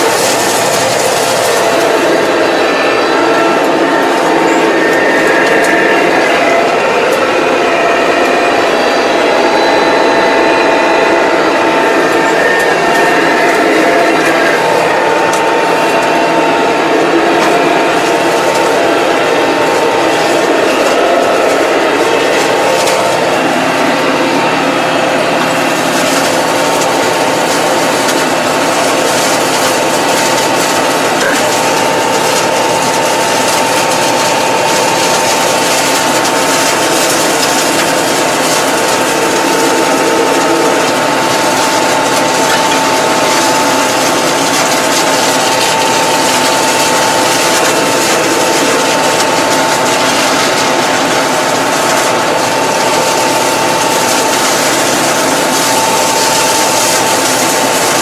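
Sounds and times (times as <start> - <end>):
steady mower whine: 0.0 - 58.0
tractor engine running: 0.0 - 58.0.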